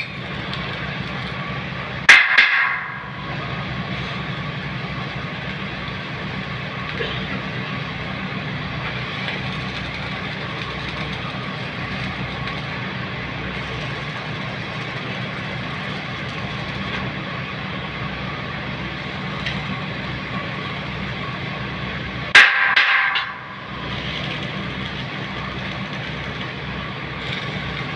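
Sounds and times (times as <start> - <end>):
machine droning with hiss: 0.0 - 27.9.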